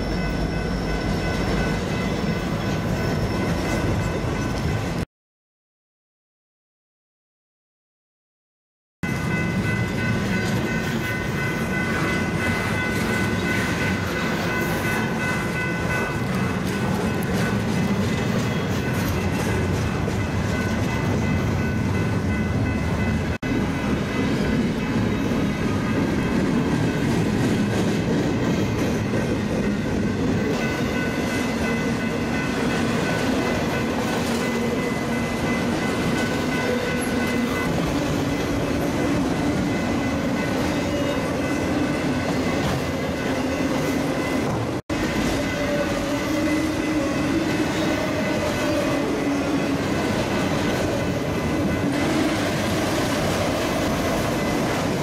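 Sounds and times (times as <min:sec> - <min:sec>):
freight train wheels rumbling: 0:09.0 - 0:55.0.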